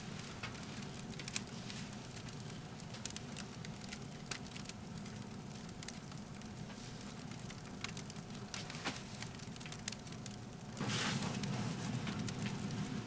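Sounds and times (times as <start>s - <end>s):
firewood crackling in a stove: 0.0s - 13.0s.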